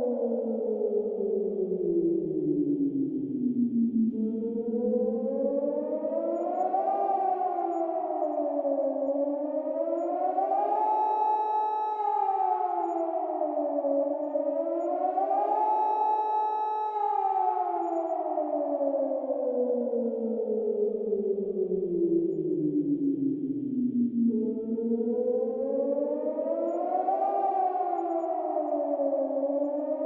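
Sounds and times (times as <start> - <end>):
warning siren wailing: 0.0 - 30.0.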